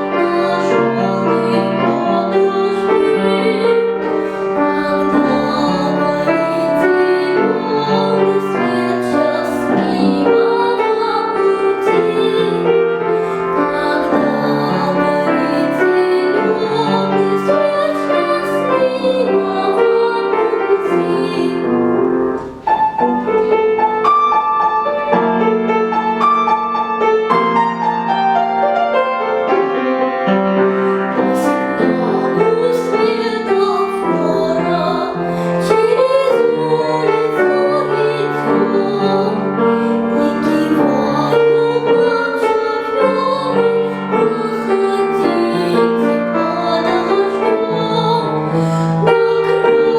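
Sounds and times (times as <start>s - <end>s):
girl singing: 0.0s - 22.1s, 31.0s - 49.9s
piano accompaniment: 0.0s - 49.9s.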